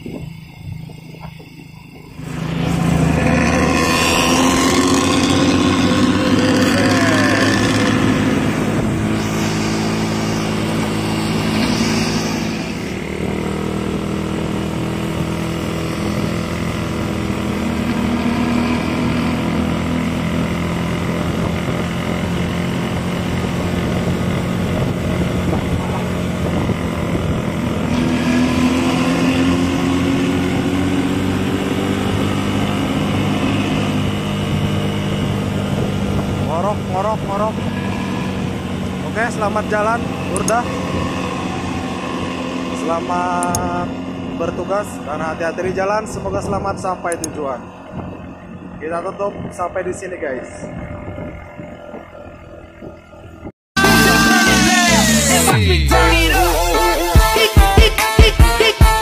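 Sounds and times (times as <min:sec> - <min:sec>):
bus engine growling: 0:00.0 - 0:57.3.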